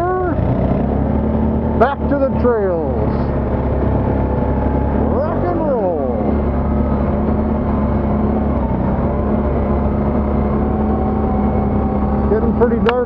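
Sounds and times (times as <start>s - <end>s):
atv engine droning: 0.0s - 13.0s.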